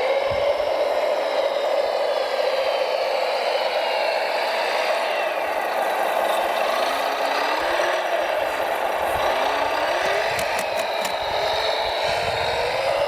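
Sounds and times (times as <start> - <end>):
model truck motors whirring: 0.0 - 13.0.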